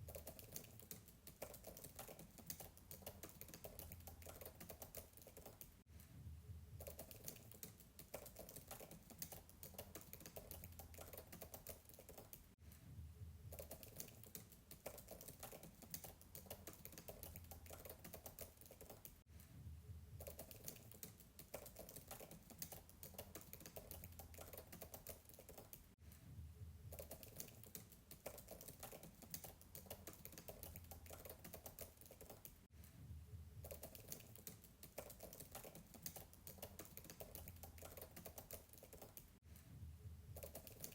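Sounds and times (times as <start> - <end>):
faint fast keyboard typing: 0.0 - 5.8, 6.7 - 12.6, 13.4 - 19.2, 20.1 - 26.0, 26.8 - 32.7, 33.6 - 39.4, 40.3 - 40.9.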